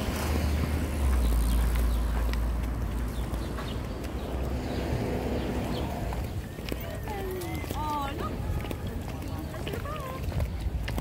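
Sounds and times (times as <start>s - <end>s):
footsteps on pavement: 0.0s - 11.0s
traffic rumble: 0.0s - 11.0s.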